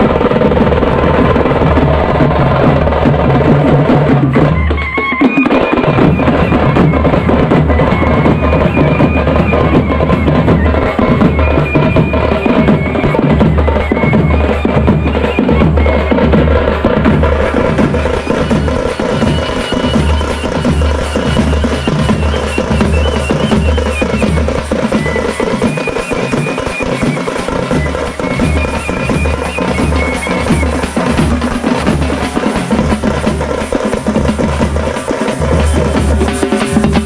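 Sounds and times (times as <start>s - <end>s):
steady drumming: 0.0s - 37.0s
high held melody line: 4.4s - 37.0s.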